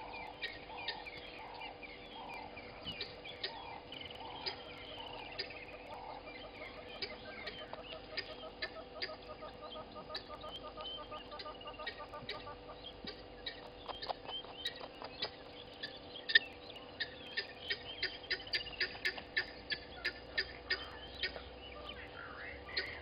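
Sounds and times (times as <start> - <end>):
birds chirping: 0.0 - 23.0
sharp evenly spaced clicks: 0.0 - 23.0.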